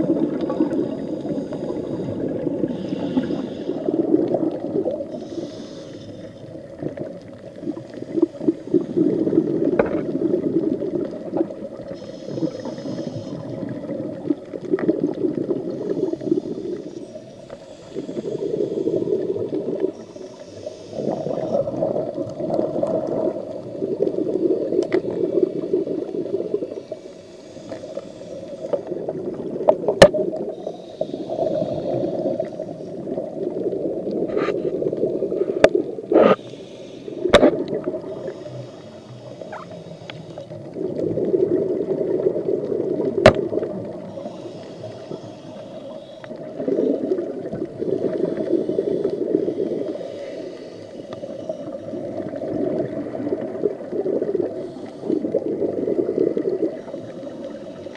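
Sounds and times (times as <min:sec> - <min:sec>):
regulator inhale hiss: 0:00.2 - 0:09.6, 0:11.7 - 0:14.0, 0:15.6 - 0:29.5, 0:30.2 - 0:41.0, 0:43.8 - 0:57.9.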